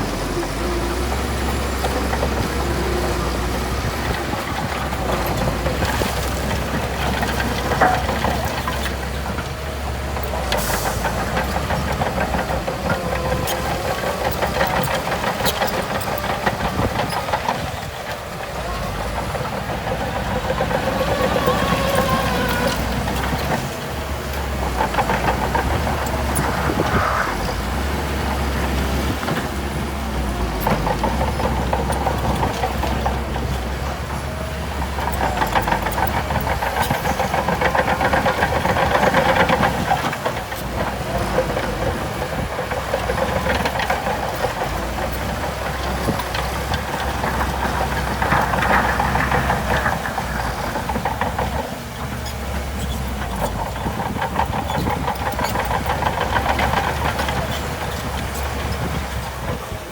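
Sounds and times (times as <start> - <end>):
diesel engine of heavy machine: 0.0 - 59.9.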